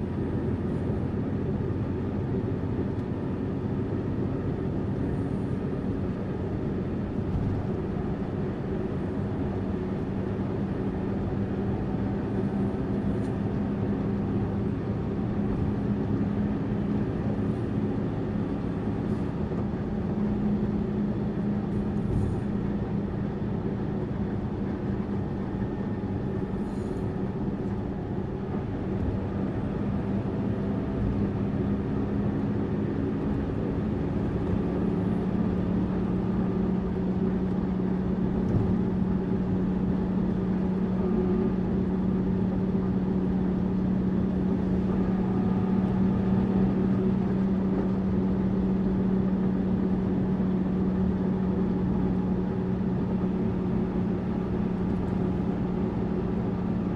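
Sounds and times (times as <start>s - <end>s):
bus engine drone: 0.0s - 56.9s
road noise: 0.0s - 56.9s.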